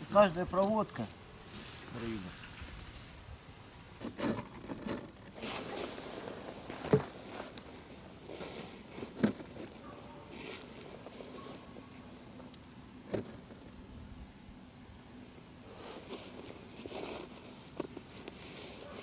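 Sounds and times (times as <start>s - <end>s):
handling rustling and scraping: 0.0s - 12.4s, 13.0s - 13.8s, 15.6s - 19.0s.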